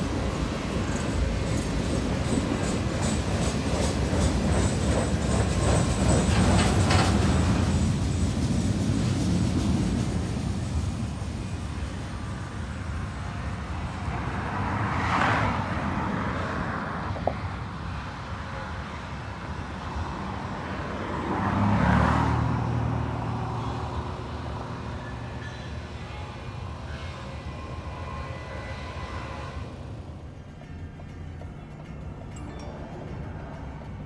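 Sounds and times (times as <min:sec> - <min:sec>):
vehicles passing: 0:06.4 - 0:34.0.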